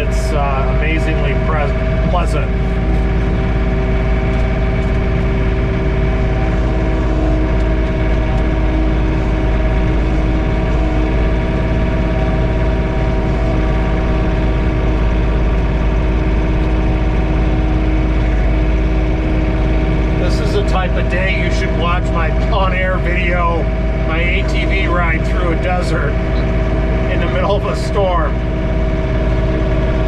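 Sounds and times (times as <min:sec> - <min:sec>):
tractor diesel engine droning: 0:00.0 - 0:30.0.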